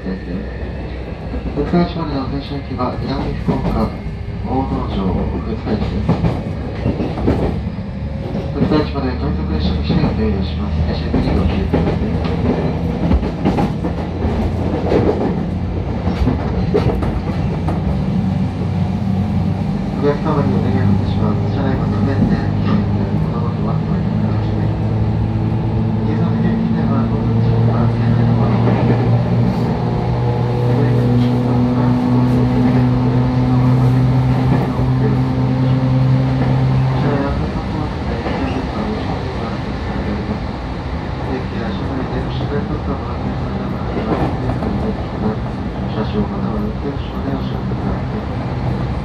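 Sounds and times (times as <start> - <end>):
train motor humming: 0.0 - 49.0
wheels rumbling on rail: 0.0 - 49.0.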